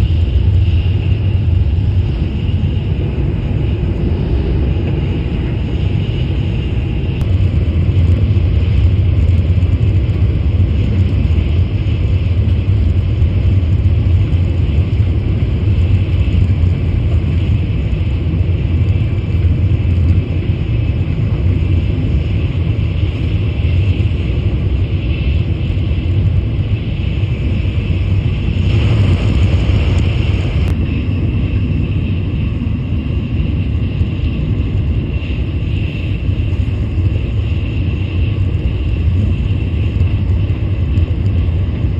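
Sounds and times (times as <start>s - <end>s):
high-speed train running: 0.0s - 41.9s.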